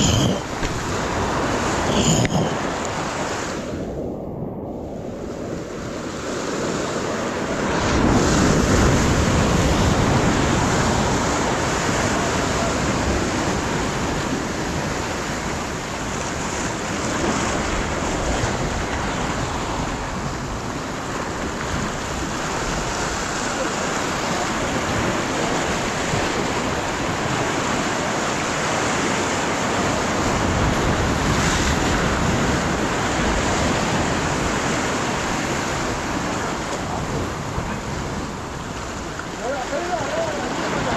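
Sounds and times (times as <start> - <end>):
surf breaking over rocks: 0.0 - 40.9
wind buffeting microphone: 0.0 - 40.9.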